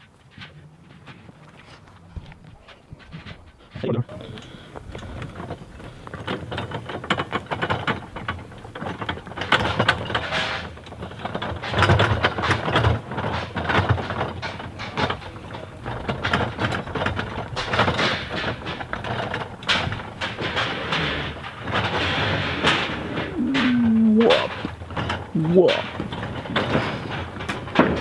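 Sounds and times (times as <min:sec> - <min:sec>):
cart wheels rattling on dirt: 0:00.0 - 0:28.0.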